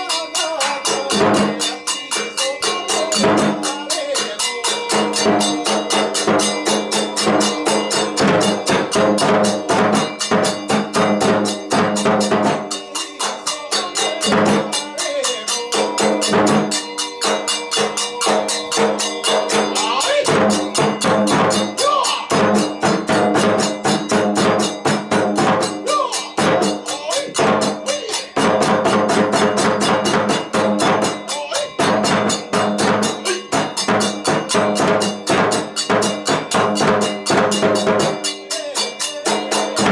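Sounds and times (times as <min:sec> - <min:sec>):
drums: 0:00.0 - 0:39.9
hand cymbals clashing: 0:00.0 - 0:39.9.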